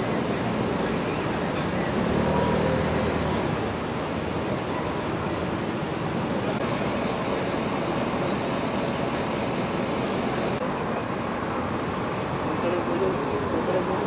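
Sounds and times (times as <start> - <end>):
busy city street traffic: 0.0 - 14.0.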